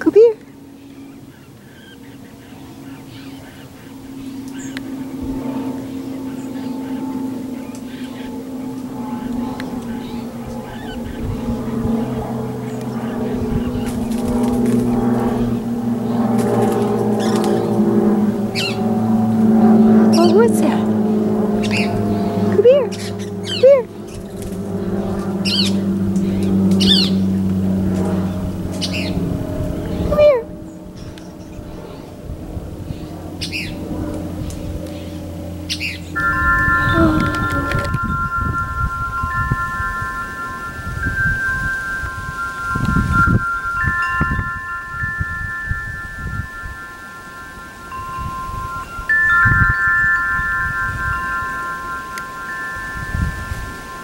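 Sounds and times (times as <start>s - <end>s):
airplane drone overhead: 0.0s - 54.0s
wind chimes ringing: 2.7s - 54.0s.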